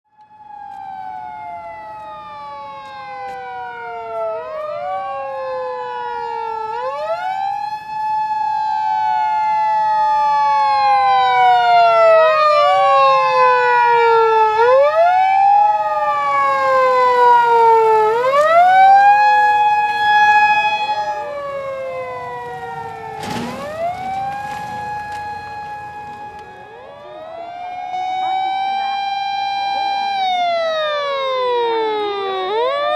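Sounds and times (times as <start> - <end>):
emergency vehicle sirens wailing: 0.1 - 32.9.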